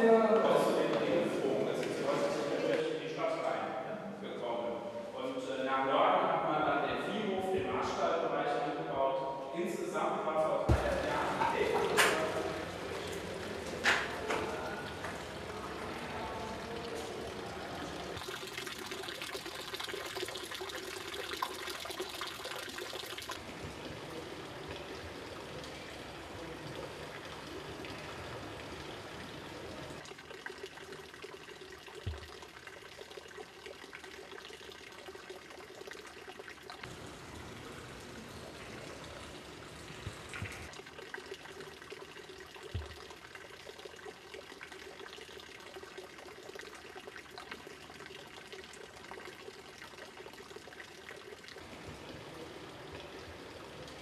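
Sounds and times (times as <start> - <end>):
running water trickling and splashing: 10.7 - 54.0.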